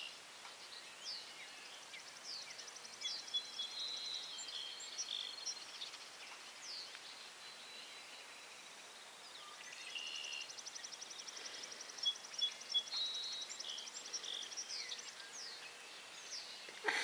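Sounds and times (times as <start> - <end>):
faint birdsong trill: 0.0 - 17.0.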